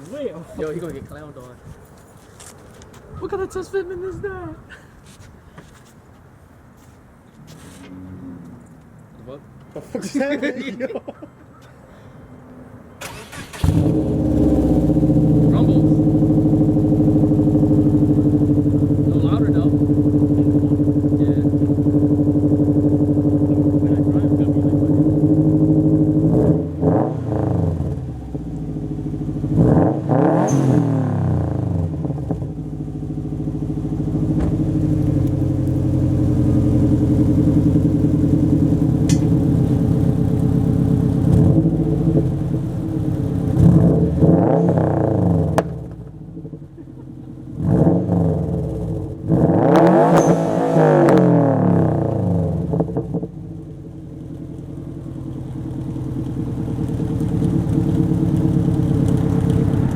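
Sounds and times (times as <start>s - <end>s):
car engine idling and revving: 7.3s - 9.8s, 11.4s - 59.9s.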